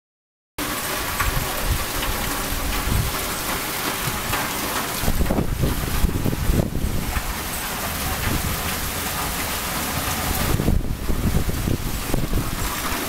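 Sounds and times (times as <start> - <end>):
heavy rain pouring: 0.6 - 13.0.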